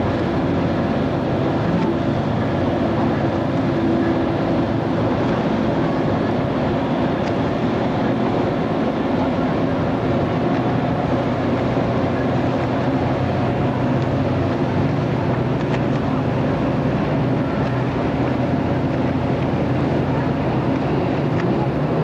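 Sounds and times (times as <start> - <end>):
constant rushing noise: 0.0 - 22.0
hovercraft engines droning: 0.0 - 22.0.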